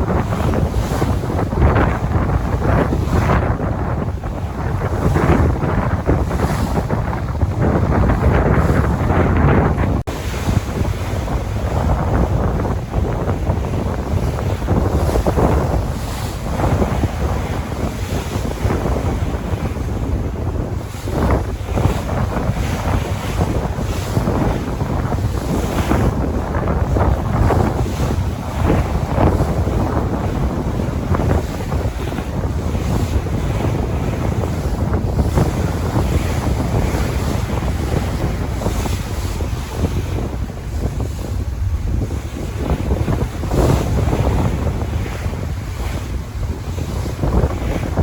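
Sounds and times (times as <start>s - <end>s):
sea waves washing: 0.0s - 48.0s
wind buffeting microphone: 0.0s - 48.0s.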